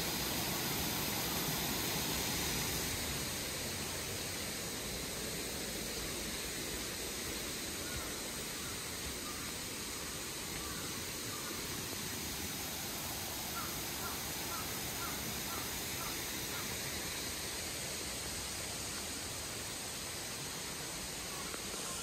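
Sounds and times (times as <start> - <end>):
stream rushing: 0.0 - 22.0.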